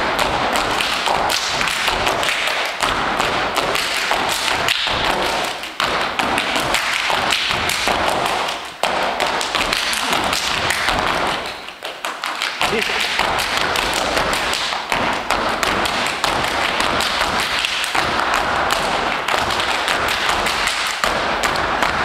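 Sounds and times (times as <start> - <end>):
hand claps: 0.0 - 22.0
rhythmic foot stomps: 0.0 - 22.0.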